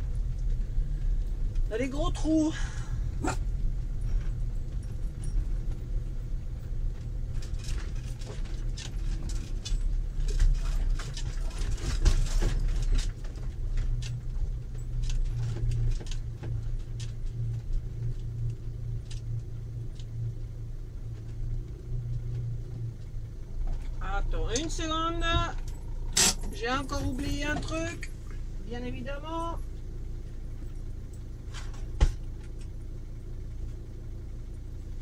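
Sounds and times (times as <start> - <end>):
engine and road hum: 0.0 - 35.0
van body rattling and knocking: 0.0 - 35.0.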